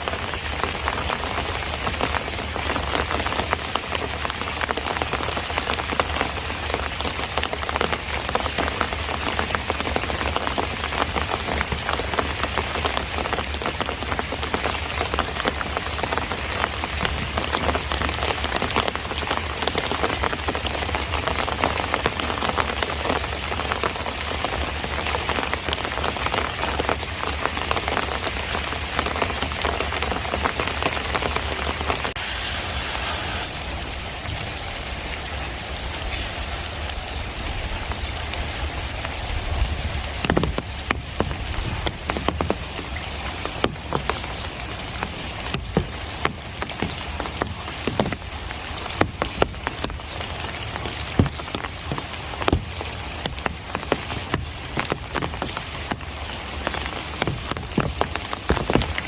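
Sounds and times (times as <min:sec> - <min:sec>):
raindrops tapping: 0:00.0 - 0:59.0
steady rain hiss: 0:00.0 - 0:59.0.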